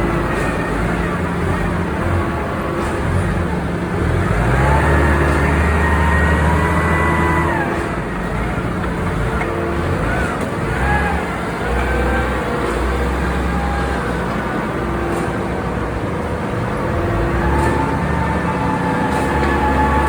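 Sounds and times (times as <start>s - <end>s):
heavy machinery humming: 0.0s - 20.0s.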